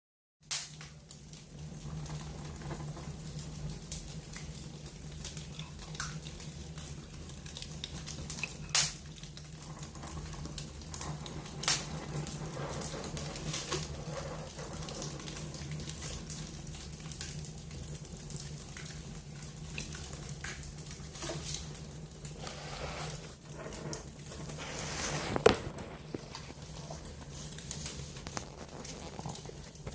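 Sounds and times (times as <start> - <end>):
wood fire crackling: 0.4 - 29.9.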